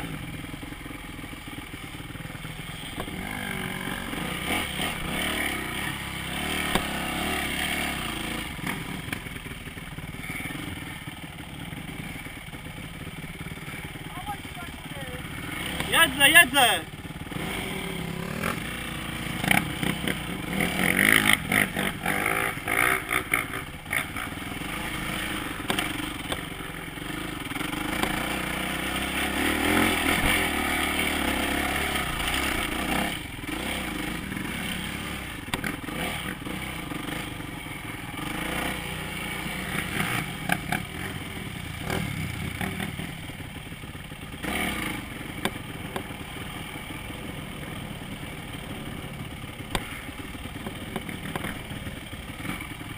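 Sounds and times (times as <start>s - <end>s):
dirt bike engine revving: 2.4s - 52.9s.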